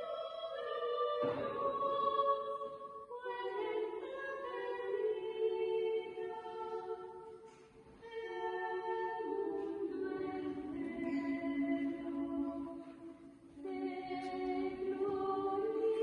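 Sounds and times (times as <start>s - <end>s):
slow choral singing: 0.0s - 16.0s.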